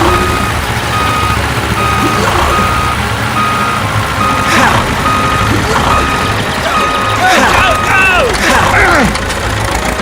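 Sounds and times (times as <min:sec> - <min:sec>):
reversing alarm beeping: 0:00.0 - 0:08.3.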